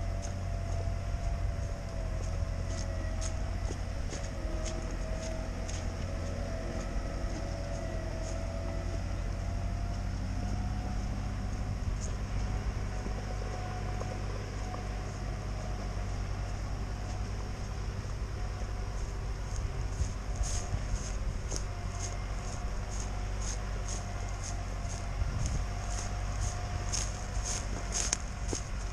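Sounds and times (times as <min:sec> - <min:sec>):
tractor diesel engine under load: 0:00.0 - 0:28.9.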